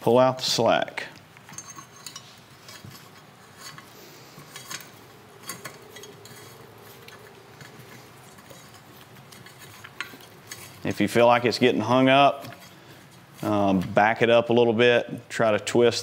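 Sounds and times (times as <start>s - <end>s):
wires rustling: 0.0s - 14.6s
wires clicking and scraping: 0.4s - 14.1s.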